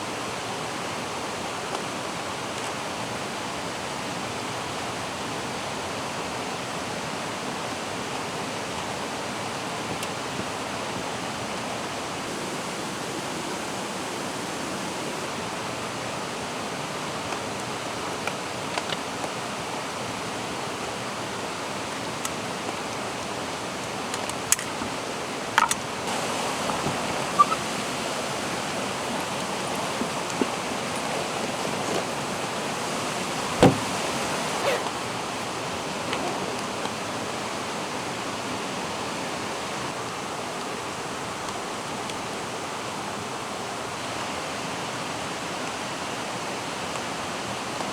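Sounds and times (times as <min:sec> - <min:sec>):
mountain stream rushing: 0:00.0 - 0:47.9.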